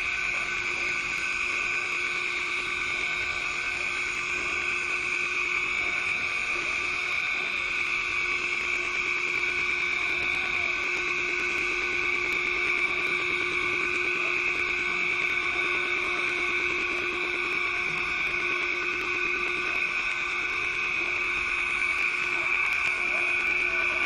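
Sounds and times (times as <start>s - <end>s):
vacuum suction motor whine: 0.0s - 24.0s.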